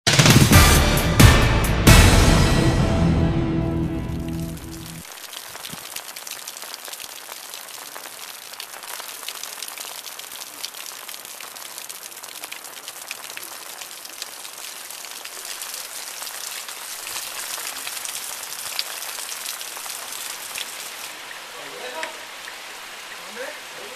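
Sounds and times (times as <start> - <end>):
heavy rain falling: 0.1 - 23.9.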